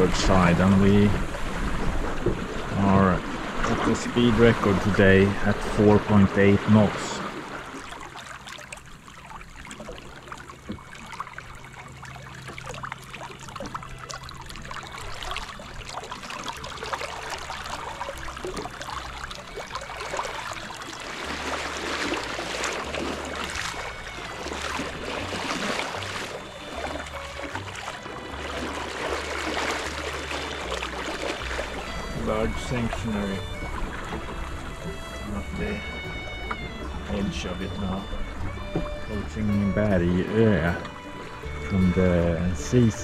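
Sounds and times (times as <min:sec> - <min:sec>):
bow wave slapping: 0:00.0 - 0:43.0
water rushing along boat hull: 0:00.0 - 0:43.0.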